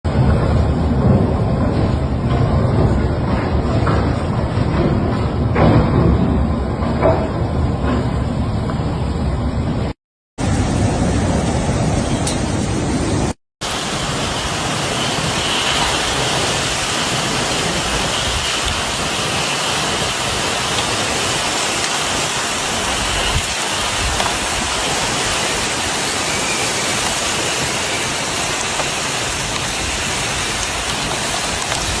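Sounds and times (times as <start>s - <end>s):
heavy rain pouring: 0.1s - 4.8s, 9.4s - 32.0s.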